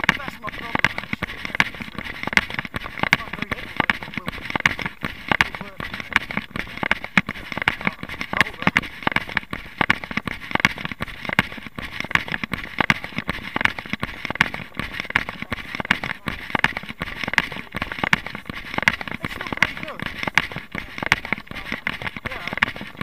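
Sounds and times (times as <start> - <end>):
running footsteps on gravel: 0.0 - 23.0.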